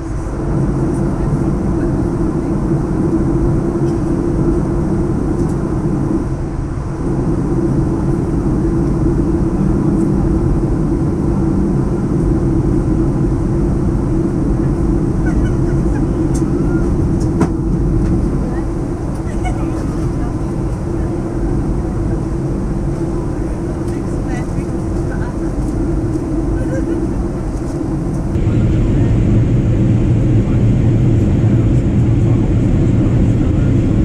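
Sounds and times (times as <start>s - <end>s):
airplane cabin drone: 0.0s - 34.0s.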